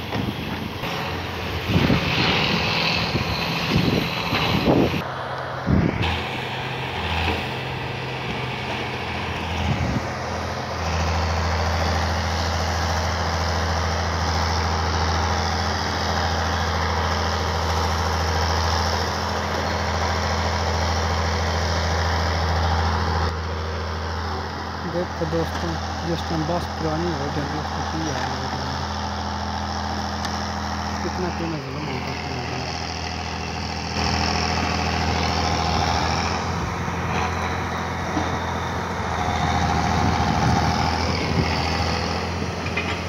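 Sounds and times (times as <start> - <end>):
diesel crane engine running: 0.0 - 43.0.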